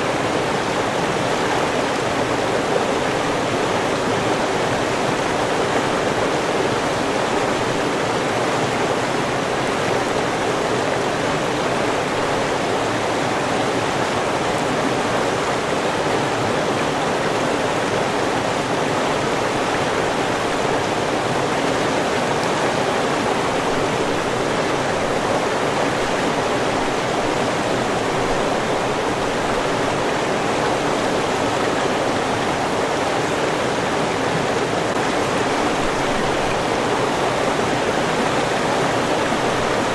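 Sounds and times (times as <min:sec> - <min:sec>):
river running over rocks: 0:00.0 - 0:39.9.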